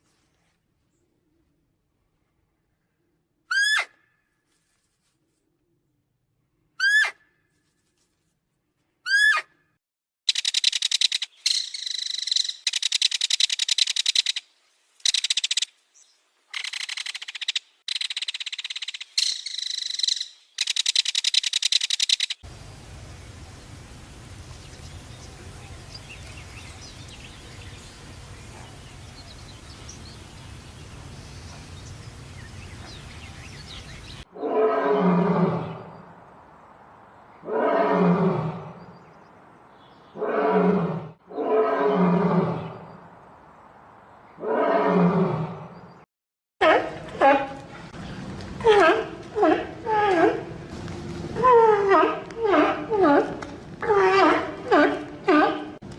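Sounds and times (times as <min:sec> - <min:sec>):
background noise: 0:00.0 - 0:46.0.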